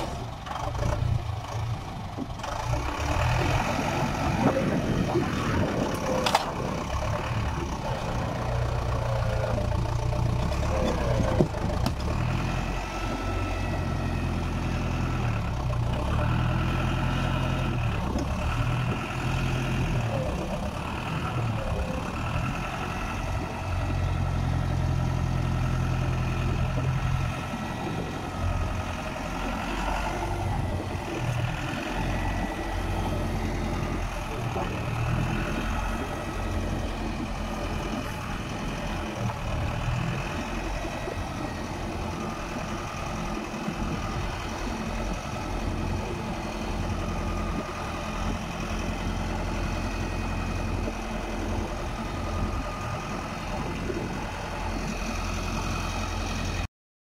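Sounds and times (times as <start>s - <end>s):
tractor diesel engine under load: 0.0s - 56.7s.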